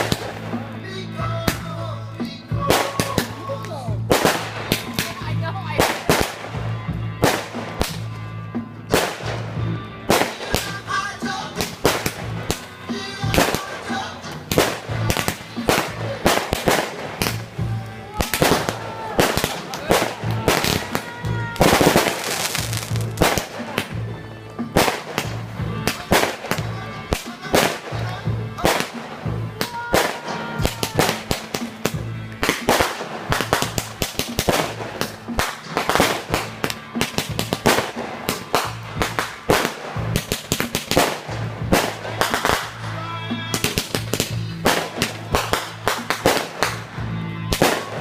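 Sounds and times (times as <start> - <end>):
fireworks bangs and crackles: 0.0 - 48.0
music with a beat: 0.0 - 48.0.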